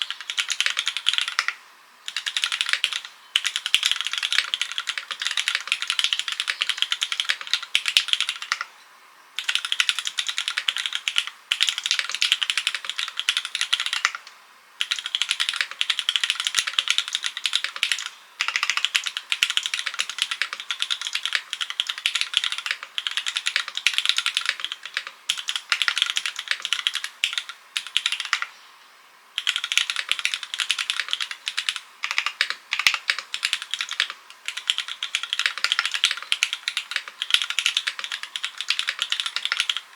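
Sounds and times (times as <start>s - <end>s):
fast typing on mechanical keyboard: 0.0s - 8.7s, 9.4s - 28.5s, 29.4s - 39.9s.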